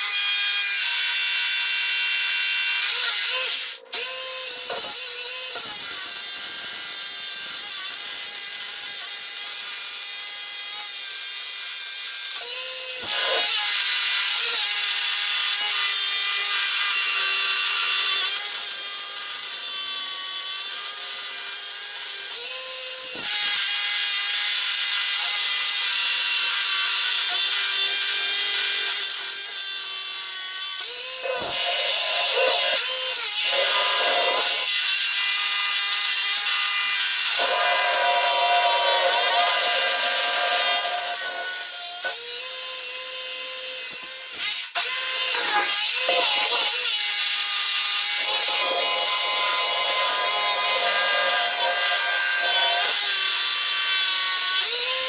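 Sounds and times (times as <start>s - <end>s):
electric drill boring into concrete: 0.0s - 55.0s.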